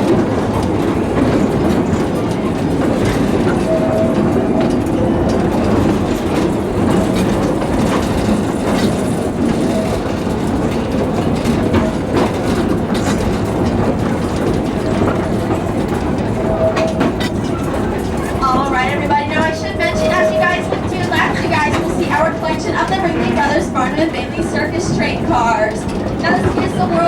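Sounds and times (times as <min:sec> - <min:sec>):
train rumble: 0:00.0 - 0:27.0
train wheels clickety-clack: 0:00.0 - 0:27.0.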